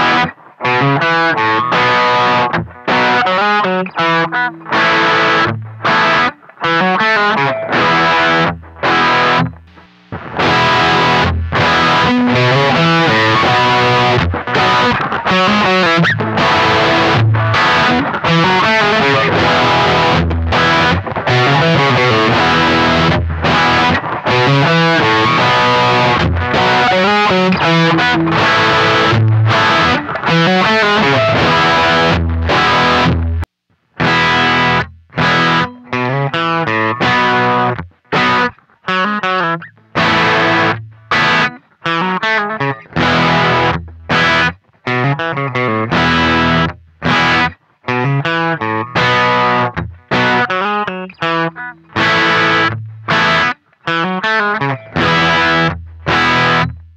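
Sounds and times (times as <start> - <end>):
distorted electric guitar riff: 0.0 - 56.9.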